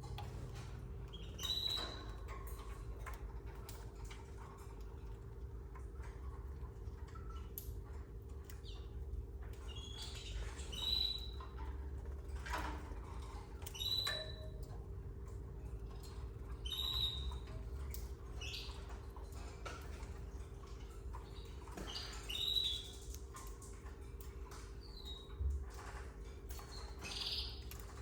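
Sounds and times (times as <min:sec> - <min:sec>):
clicks and taps from cage: 0:00.0 - 0:28.0
canaries chirping: 0:00.1 - 0:28.0.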